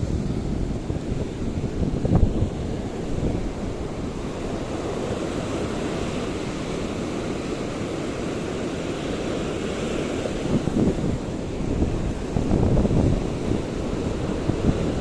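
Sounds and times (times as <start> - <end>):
wind buffeting the microphone: 0.0 - 7.8, 9.7 - 15.0
waves washing: 0.0 - 15.0.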